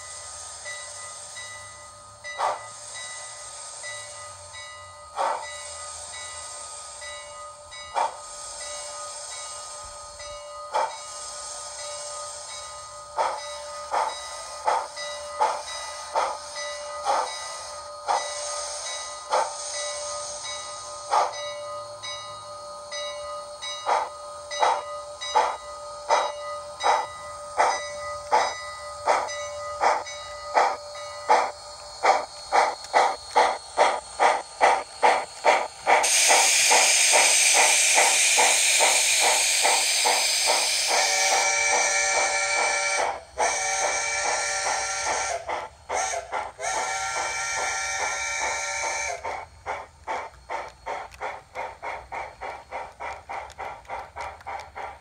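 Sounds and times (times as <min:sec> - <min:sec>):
loud steady steam hiss: 0:00.0 - 0:55.0
steam exhaust chuffs: 0:00.0 - 0:55.0.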